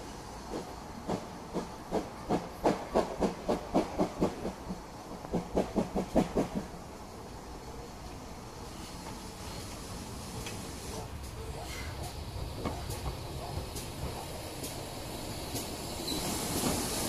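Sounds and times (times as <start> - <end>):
steam locomotive exhaust beats: 0.0 - 7.0, 8.7 - 17.0
steam hiss: 0.0 - 17.0.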